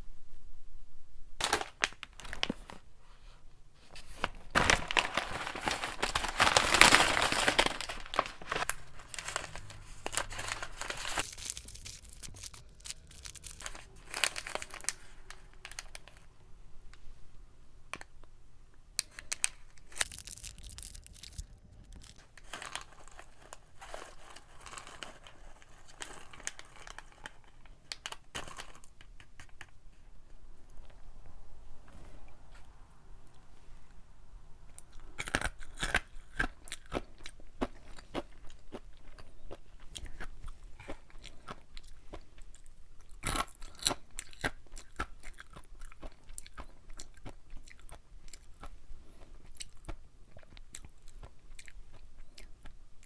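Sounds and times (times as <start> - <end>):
plastic snack packets crinkling: 1.4 - 2.9, 4.0 - 16.4, 19.0 - 29.8, 34.8 - 52.8.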